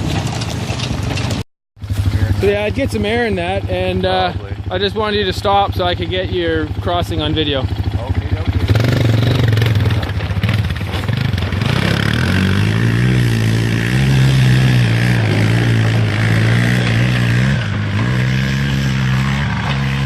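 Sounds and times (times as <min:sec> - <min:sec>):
vehicle engine revving: 0:01.0 - 0:20.0.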